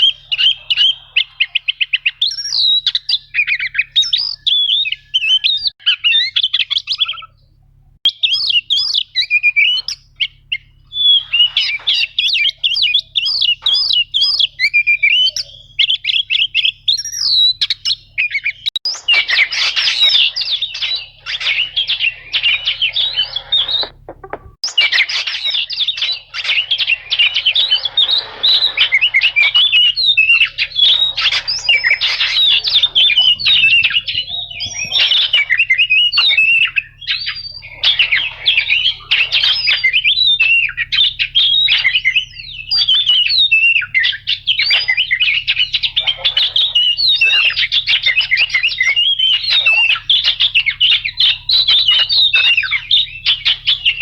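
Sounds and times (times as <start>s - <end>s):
songbird singing chattering phrases: 0.0s - 54.0s.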